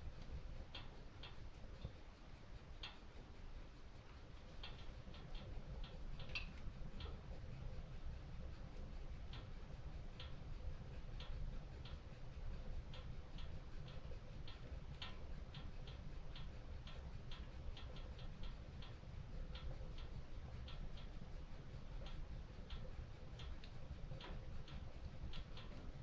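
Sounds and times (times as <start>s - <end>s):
low rumble of burning fire: 0.0s - 26.0s.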